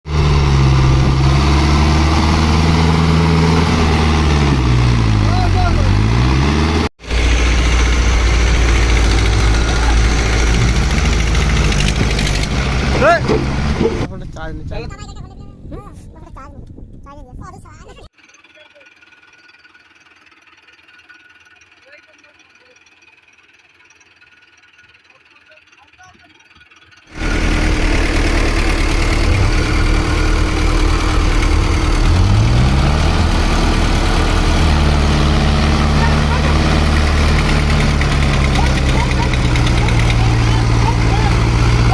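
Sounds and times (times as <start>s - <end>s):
tractor diesel engine running: 0.0s - 14.1s, 18.1s - 41.9s.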